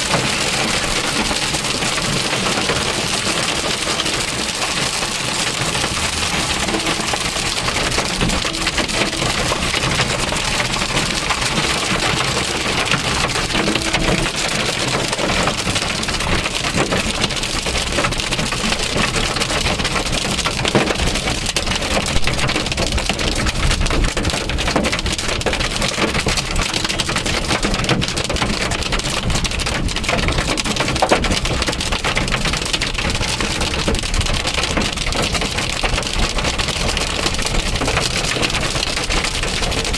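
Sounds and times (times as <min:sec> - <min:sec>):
hail drumming on a car: 0:00.0 - 0:39.9.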